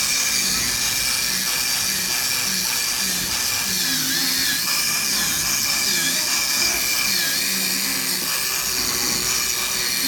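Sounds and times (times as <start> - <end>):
cutting machine whine and hiss: 0.0 - 10.0.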